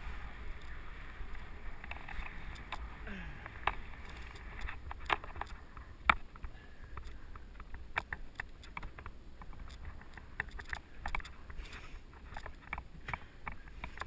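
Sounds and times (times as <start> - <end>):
mountain bike rattling: 0.0 - 14.0.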